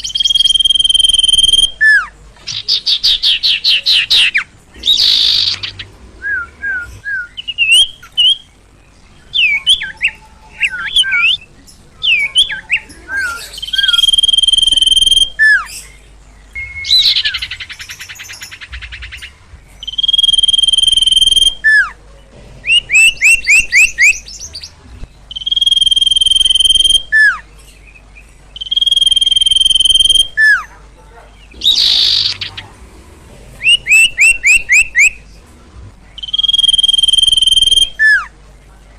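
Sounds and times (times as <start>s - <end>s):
harsh buzzy rasps: 0.0s - 27.5s, 28.2s - 30.8s, 31.4s - 38.4s
songbird singing: 0.0s - 38.9s.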